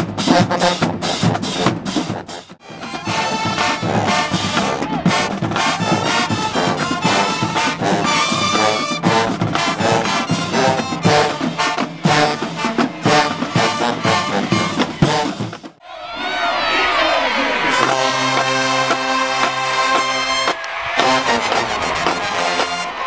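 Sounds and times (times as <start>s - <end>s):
brass band playing: 0.0s - 15.8s, 16.4s - 23.0s.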